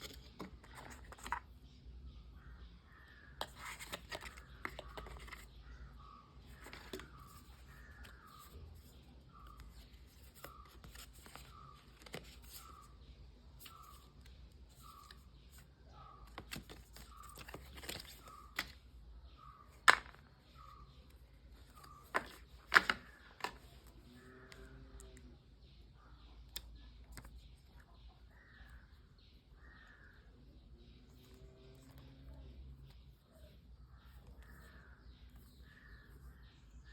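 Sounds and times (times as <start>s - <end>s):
distant bird calls: 0.0s - 36.9s.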